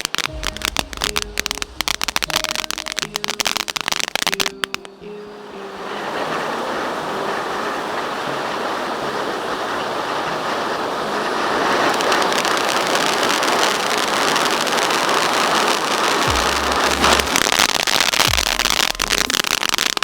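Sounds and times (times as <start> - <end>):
firework crackling: 0.0 - 20.0
fountain firework hissing: 0.0 - 20.0.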